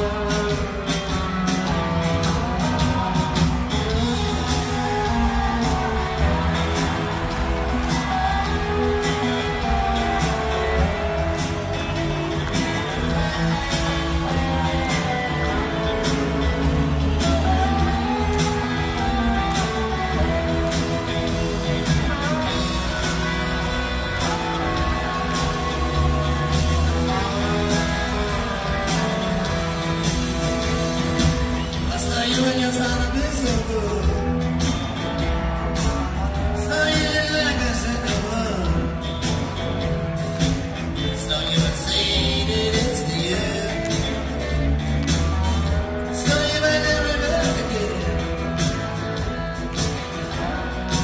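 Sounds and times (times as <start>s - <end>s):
bass guitar: 0.0s - 51.0s
electric guitars: 0.0s - 51.0s
live rock band playing: 0.0s - 51.0s.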